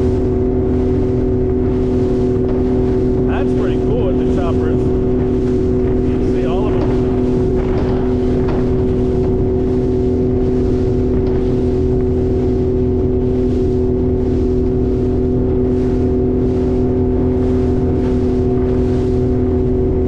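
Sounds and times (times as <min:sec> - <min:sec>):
speedboat engine running: 0:00.0 - 0:20.0
wind and water rushing: 0:00.0 - 0:20.0.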